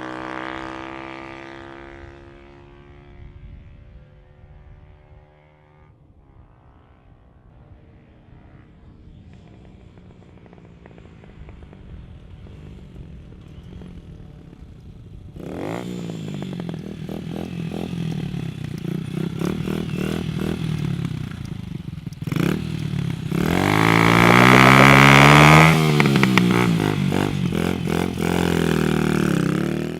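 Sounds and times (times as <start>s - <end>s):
motorcycle accelerating past: 0.0s - 6.0s, 8.4s - 29.9s.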